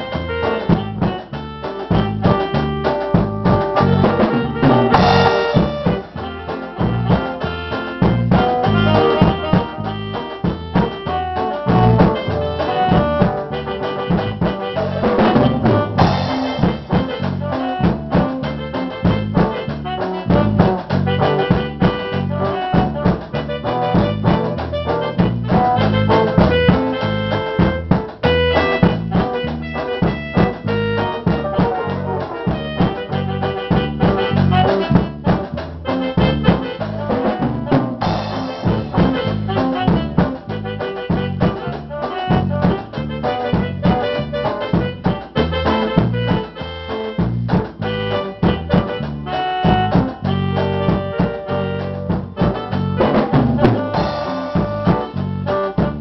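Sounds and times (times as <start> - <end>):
brass horns: 0.0 - 56.0
drum kit rhythm: 0.0 - 56.0
guitar: 0.0 - 56.0.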